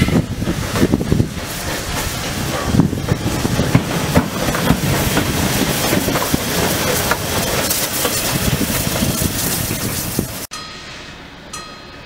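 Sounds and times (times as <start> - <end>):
wheels clanking and knocking: 0.0 - 10.5
steam locomotive hissing: 0.0 - 11.7.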